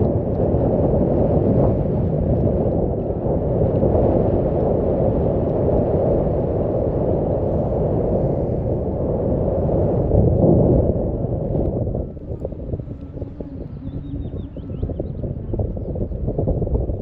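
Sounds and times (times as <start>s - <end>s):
ship running rumble: 0.0s - 17.0s
wind on microphone: 0.0s - 17.0s.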